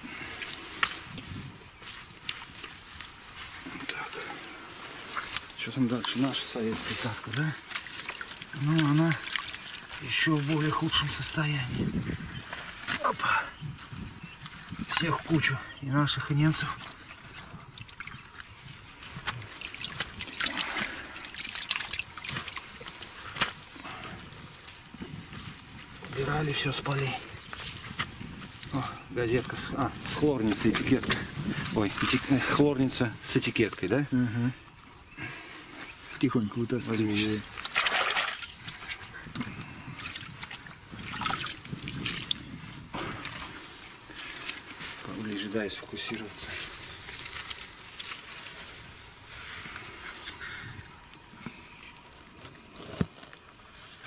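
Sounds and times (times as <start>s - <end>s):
mud squelching: 0.0s - 54.0s
muddy water trickling and dripping: 0.0s - 54.0s
small wet splats and clicks: 0.2s - 4.3s, 5.1s - 11.5s, 12.4s - 13.2s, 13.8s - 15.5s, 16.1s - 34.0s, 36.0s - 45.4s, 46.0s - 48.9s, 49.7s - 54.0s.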